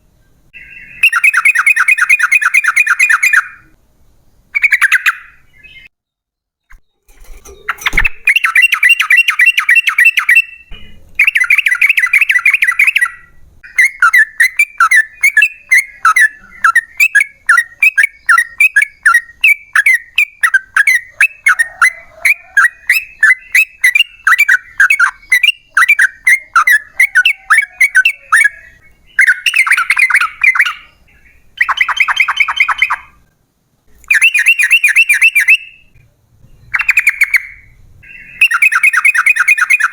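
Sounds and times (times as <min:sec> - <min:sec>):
bird singing bubbling chatter: 0:00.5 - 0:03.8, 0:04.5 - 0:05.9, 0:06.7 - 0:33.3, 0:33.9 - 0:39.9.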